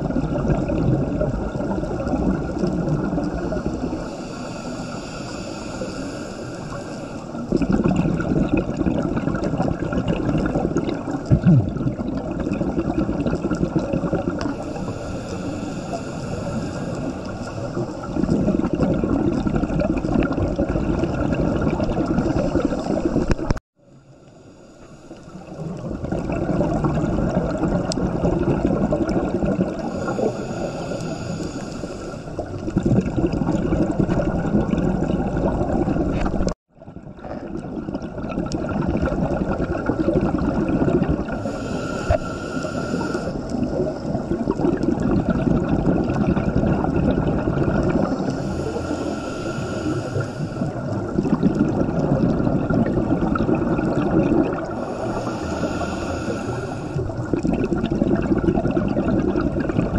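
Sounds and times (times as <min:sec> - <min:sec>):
churning water: 0:00.0 - 0:24.2, 0:25.0 - 0:42.2, 0:42.8 - 0:59.9.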